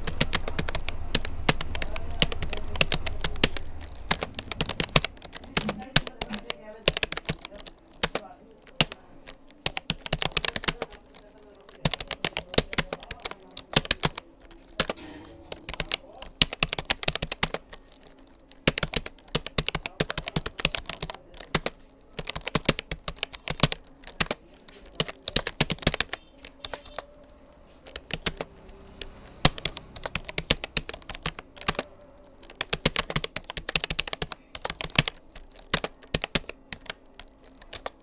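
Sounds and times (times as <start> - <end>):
keyboard typing: 0.0 - 38.0.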